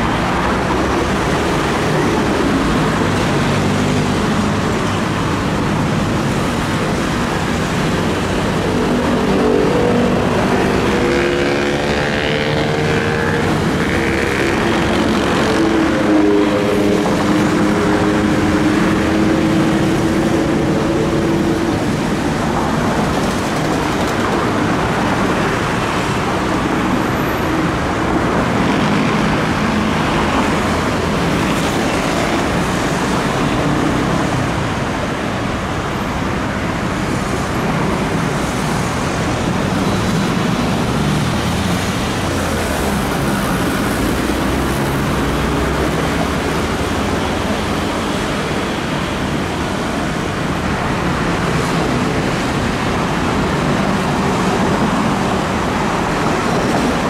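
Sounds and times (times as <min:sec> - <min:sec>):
vehicles passing on busy road: 0:00.0 - 0:57.0.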